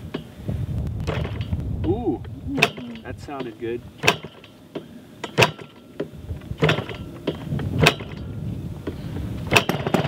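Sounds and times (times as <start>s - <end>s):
low engine churning: 0.0s - 10.0s
model plane engine popping: 0.9s - 10.0s.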